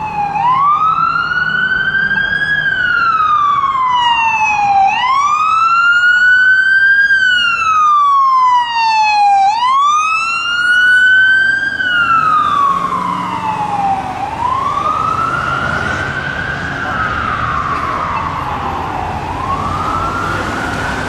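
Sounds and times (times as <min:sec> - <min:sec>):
ambulance siren wailing: 0:00.0 - 0:21.0
van engine and tyre noise: 0:00.0 - 0:21.0.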